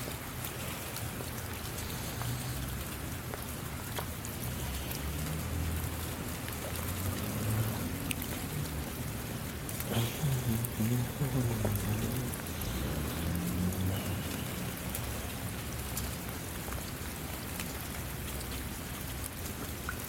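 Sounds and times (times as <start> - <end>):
rain drop taps: 0.0 - 20.0
steady rain falling: 0.0 - 20.0.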